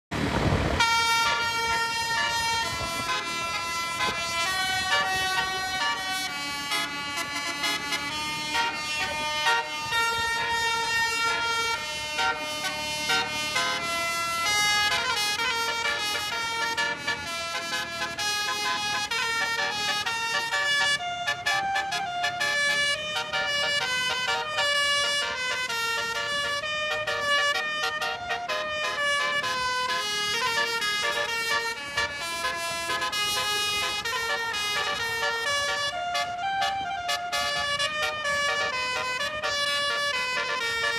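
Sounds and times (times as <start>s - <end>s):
multi-tone air horn melody: 0.8s - 40.9s.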